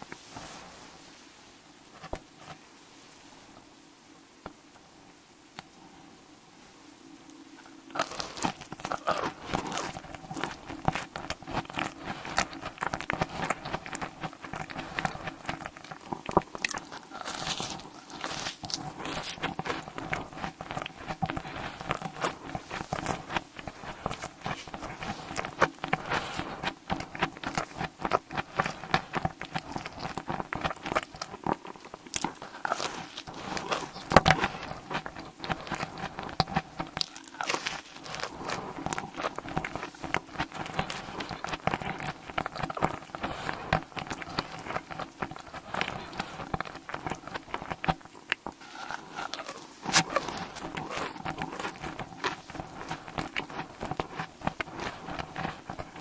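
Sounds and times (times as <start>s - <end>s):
crunching bites and chewing: 7.6s - 56.0s.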